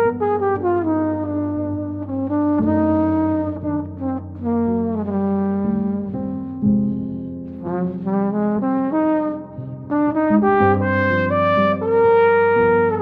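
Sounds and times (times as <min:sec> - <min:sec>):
flugelhorn melody: 0:00.0 - 0:06.7, 0:07.6 - 0:13.0.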